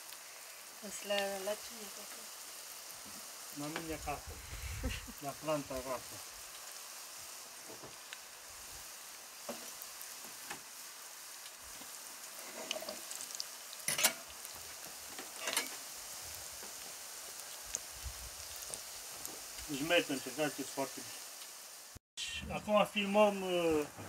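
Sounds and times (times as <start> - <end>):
dough sizzling in oil: 0.0 - 22.0.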